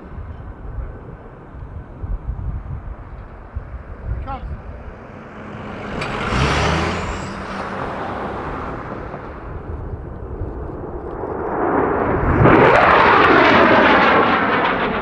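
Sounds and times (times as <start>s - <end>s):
jet aircraft engine rushing: 0.0s - 15.0s.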